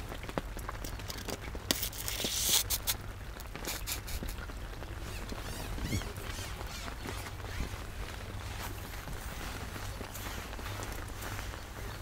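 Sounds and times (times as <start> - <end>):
rain drops tapping on umbrella: 0.0 - 12.0
rustling hiss: 0.8 - 12.0.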